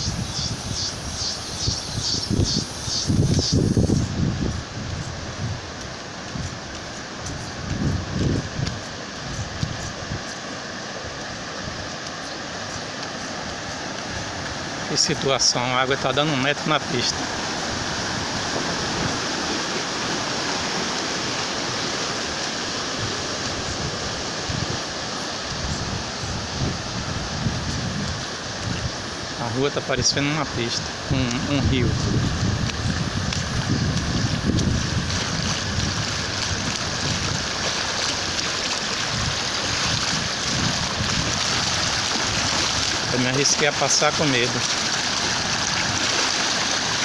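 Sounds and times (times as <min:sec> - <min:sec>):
floodwater rushing across road: 0:00.0 - 0:47.0
wind rumbling on microphone: 0:00.0 - 0:47.0.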